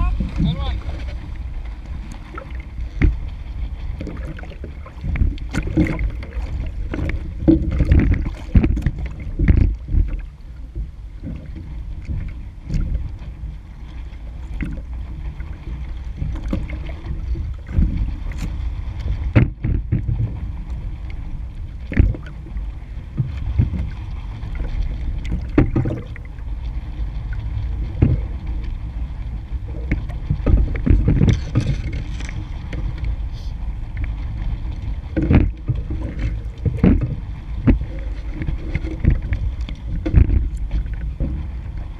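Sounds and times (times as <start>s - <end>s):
hull slapping against waves: 0.0s - 41.9s
water rushing past: 0.0s - 41.9s
wind rumble on microphone: 0.0s - 41.9s.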